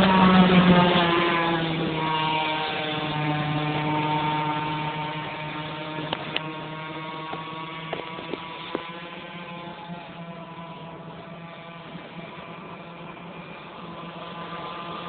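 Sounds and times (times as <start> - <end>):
two-stroke boat engine running: 0.0 - 15.0.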